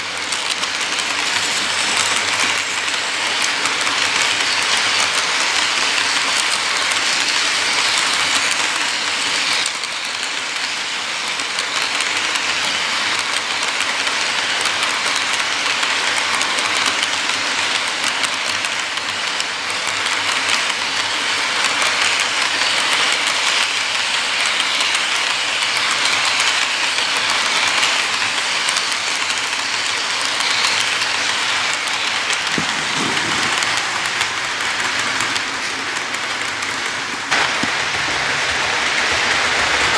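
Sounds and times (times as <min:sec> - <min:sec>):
clicks over rail joints: 0:00.0 - 0:39.9
model train wheels rolling on rail: 0:00.0 - 0:39.9.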